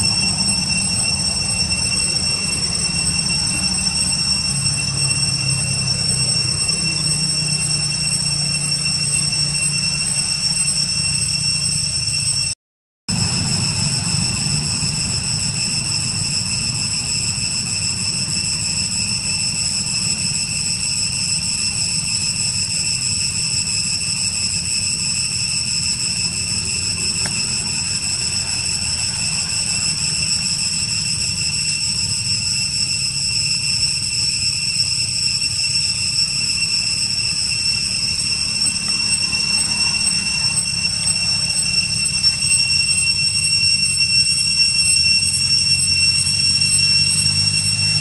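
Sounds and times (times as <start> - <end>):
high-pitched insect chorus: 0.0 - 48.0.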